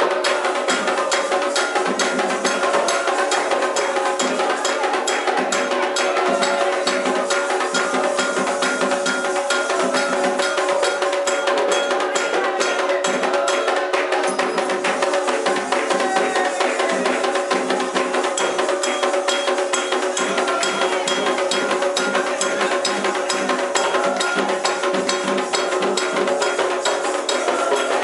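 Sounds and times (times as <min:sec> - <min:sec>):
bright struck percussion: 0:00.0 - 0:28.0
hand drums playing rhythm: 0:00.0 - 0:28.0.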